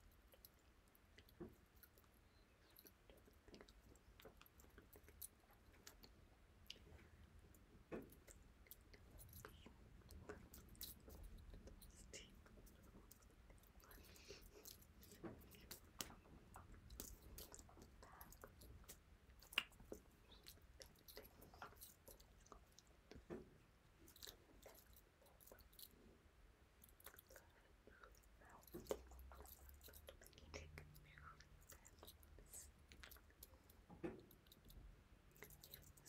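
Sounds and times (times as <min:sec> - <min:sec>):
faint handling and mouth clicks: 0:00.0 - 0:36.0.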